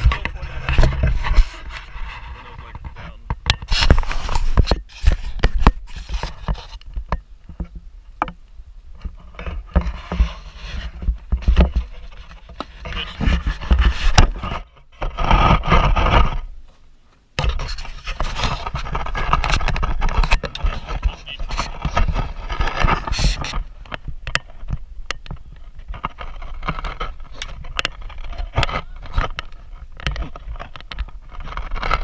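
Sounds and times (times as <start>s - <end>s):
camera handling scraping: 0.0s - 7.7s, 9.1s - 16.5s, 17.4s - 32.0s.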